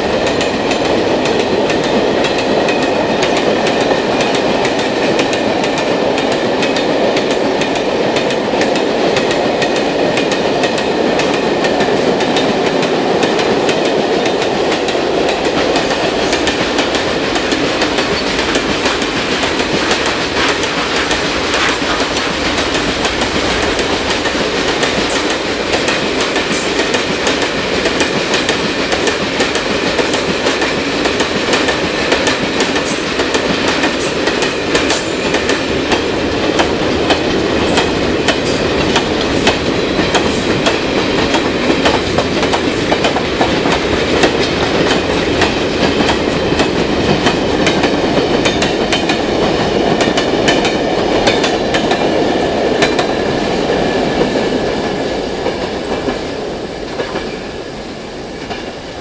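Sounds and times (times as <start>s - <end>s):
train wheels rumbling over rail joints: 0.0s - 57.7s.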